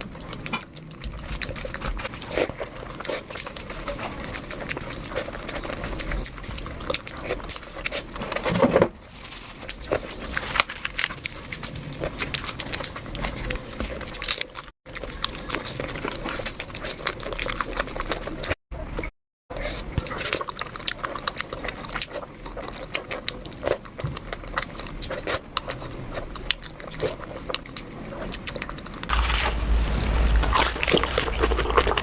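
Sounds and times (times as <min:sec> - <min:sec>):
chewing and lip-smacking: 0:00.0 - 0:08.5, 0:09.3 - 0:32.0.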